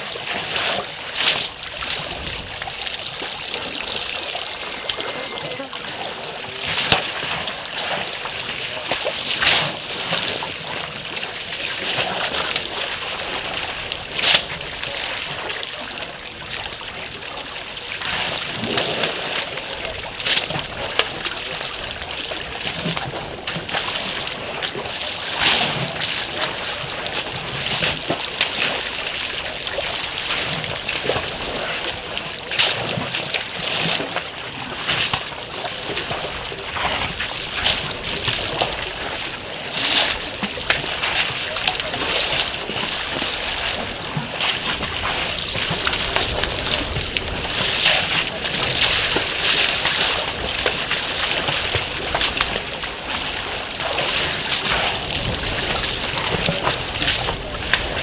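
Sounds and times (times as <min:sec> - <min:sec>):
elephants splashing water: 0:00.0 - 0:58.0
steady wash of water: 0:00.0 - 0:58.0.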